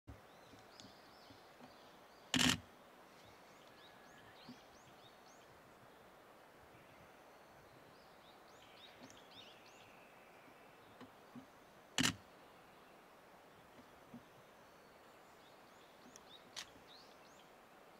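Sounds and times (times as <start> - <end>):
faint outdoor background: 0.1 - 17.9
small birds chirping: 0.1 - 17.9.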